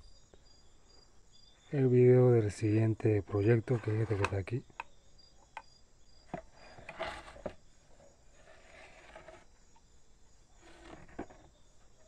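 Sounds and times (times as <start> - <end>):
faint insects chirping: 0.0 - 12.0.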